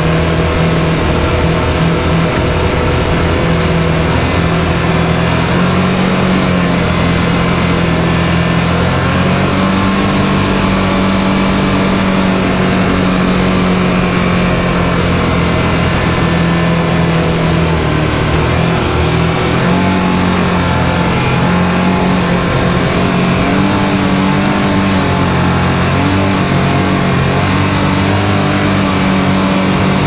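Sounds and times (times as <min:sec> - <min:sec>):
driving noise: 0:00.0 - 0:30.0
turbocharged engine running: 0:00.0 - 0:30.0.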